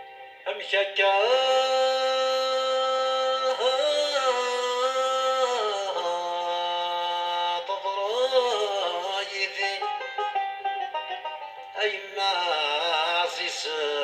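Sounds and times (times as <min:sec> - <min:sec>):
sliding melody with processed lead: 0:00.0 - 0:14.0.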